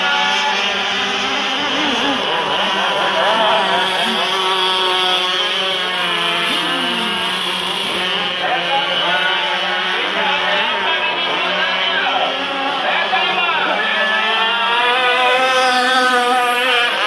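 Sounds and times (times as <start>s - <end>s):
model boat engines whining: 0.0s - 17.0s.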